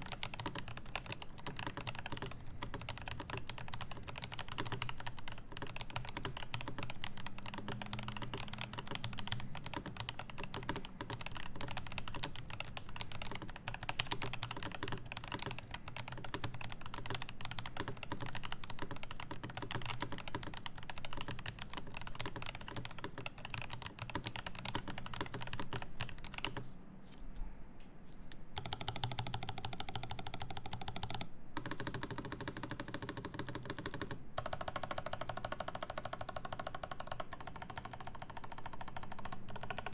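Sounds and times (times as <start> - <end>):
rapid irregular clicking: 0.0 - 26.7, 28.6 - 39.9.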